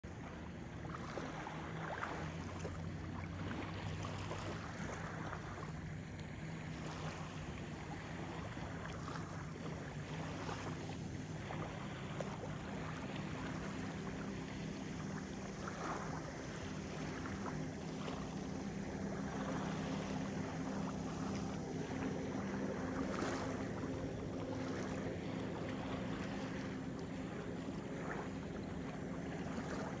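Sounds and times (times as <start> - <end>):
low steady hum: 0.0 - 30.0
ripples lapping at shore: 0.0 - 30.0
soft little splashes: 0.0 - 30.0.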